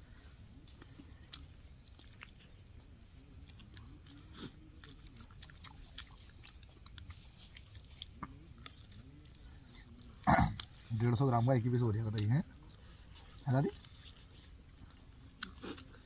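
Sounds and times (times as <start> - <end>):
person chewing chicken: 0.0 - 11.0, 12.0 - 16.0.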